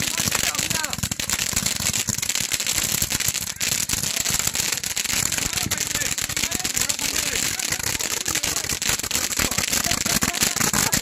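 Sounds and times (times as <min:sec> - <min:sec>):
fireworks rapid pops and crackle: 0:00.0 - 0:11.0.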